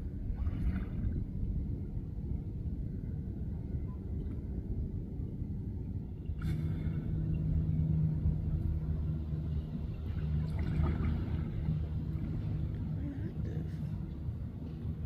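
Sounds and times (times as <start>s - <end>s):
low engine-like drone: 0.0s - 15.0s
low rumble: 0.0s - 15.0s.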